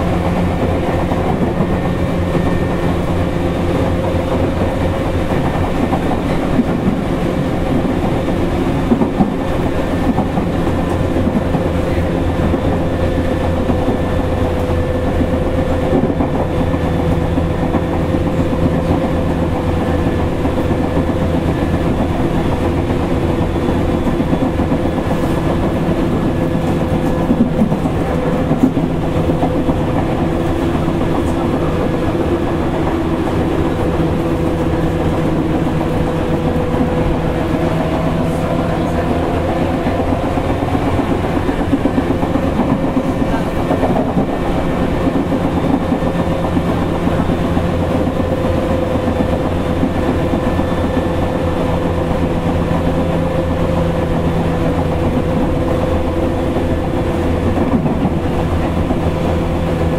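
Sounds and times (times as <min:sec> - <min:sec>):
sharp rail clicks: 0:00.0 - 0:59.9
traction motor hum: 0:00.0 - 0:59.9
wheel-on-rail rumble: 0:00.0 - 0:59.9.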